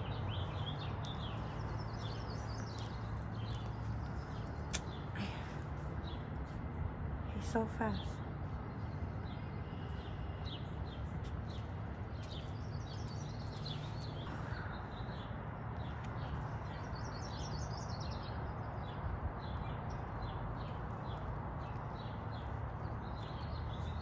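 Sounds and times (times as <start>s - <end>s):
low background hum: 0.0s - 24.0s
small birds chirping: 0.0s - 24.0s.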